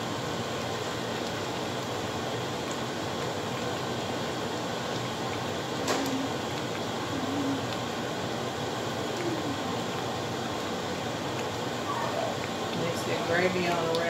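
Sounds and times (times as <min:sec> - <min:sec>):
gravy simmering with a hiss: 0:00.0 - 0:14.0.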